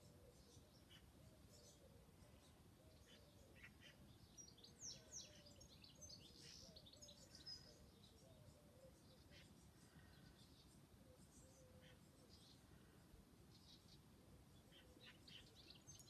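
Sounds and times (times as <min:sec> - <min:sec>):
background hiss: 0:00.0 - 0:16.0
birds chirping: 0:00.0 - 0:16.0.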